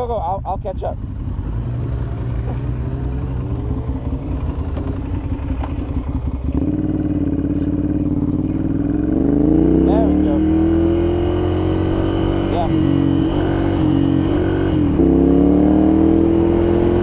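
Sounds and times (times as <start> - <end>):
motorcycle engine accelerating: 0.8 - 17.0.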